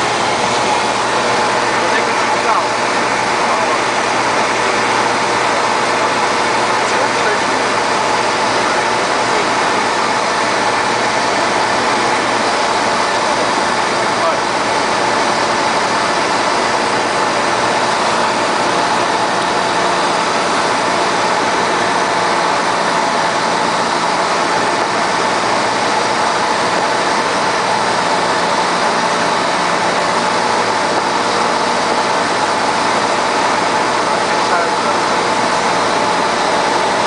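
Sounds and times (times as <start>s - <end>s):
aircraft engine and propeller drone: 0.0s - 37.0s.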